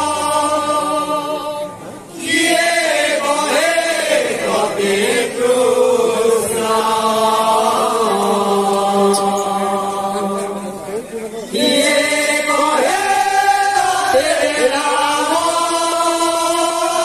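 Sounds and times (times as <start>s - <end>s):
men chanting together: 2.2s - 10.4s, 11.6s - 17.0s.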